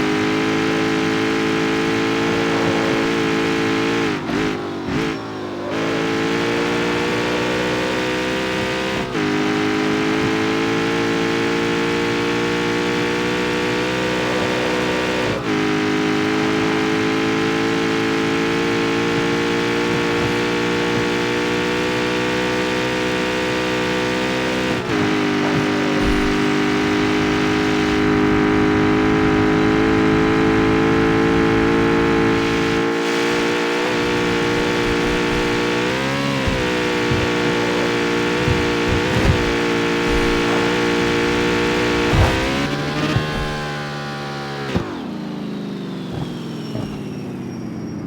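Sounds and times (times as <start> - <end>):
car engine running: 0.0 - 48.0.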